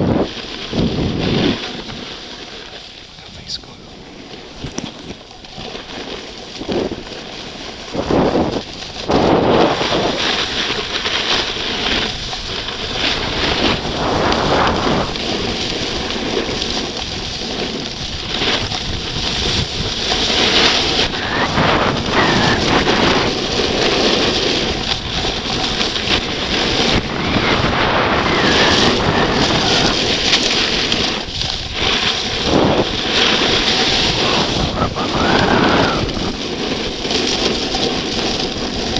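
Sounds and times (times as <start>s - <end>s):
skis sliding on snow: 0.0s - 38.9s
wind buffeting microphone: 0.0s - 38.9s.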